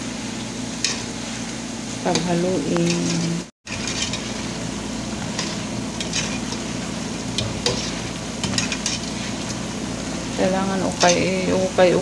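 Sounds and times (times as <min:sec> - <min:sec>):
dough deep-frying in oil: 0:00.0 - 0:12.0.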